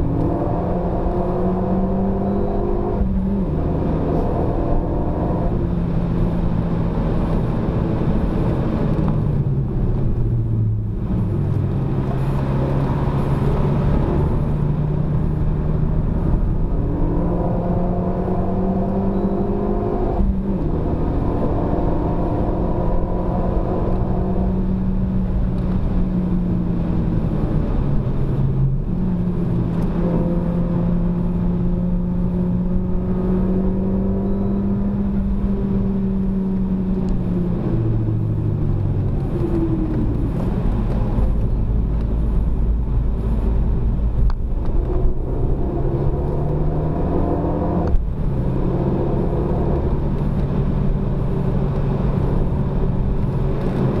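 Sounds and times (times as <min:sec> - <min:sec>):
car engine accelerating through gears: 0:00.0 - 0:54.0.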